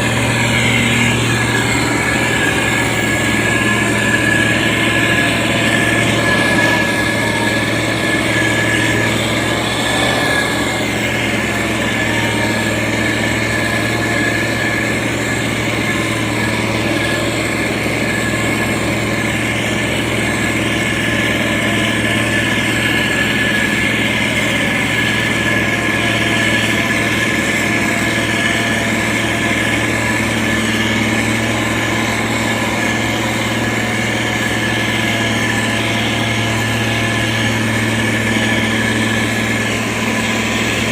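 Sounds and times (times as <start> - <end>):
diesel engine running: 0.0 - 40.9
high whine: 0.0 - 40.9.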